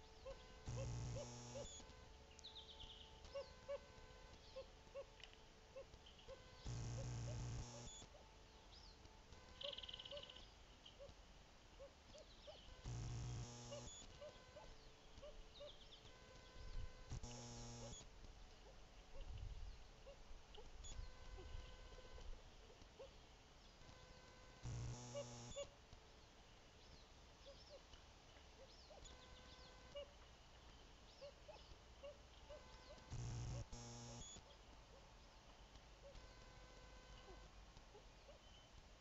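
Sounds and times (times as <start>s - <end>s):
camera electronic hum with low buzz: 0.0s - 39.0s.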